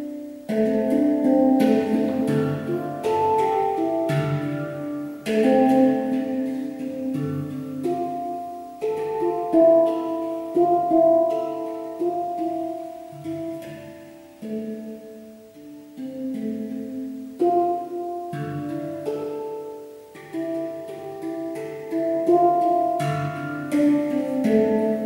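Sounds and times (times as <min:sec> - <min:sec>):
handpan melody: 0:00.0 - 0:25.0.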